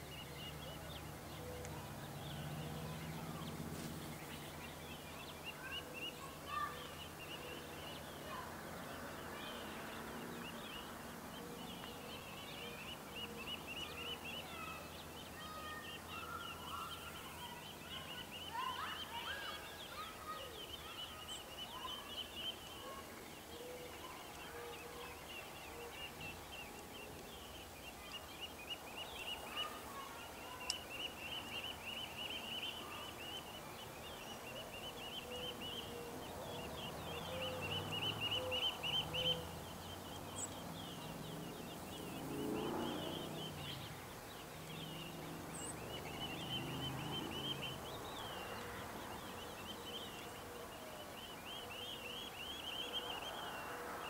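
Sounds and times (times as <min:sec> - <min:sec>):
quail chicks peeping: 0:00.0 - 0:53.6.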